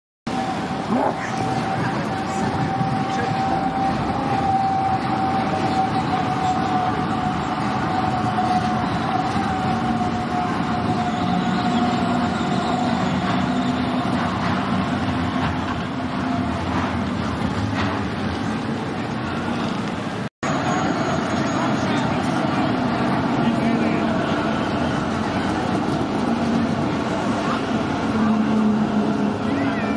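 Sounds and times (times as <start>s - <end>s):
tram rolling on street rails: 0.3s - 29.9s.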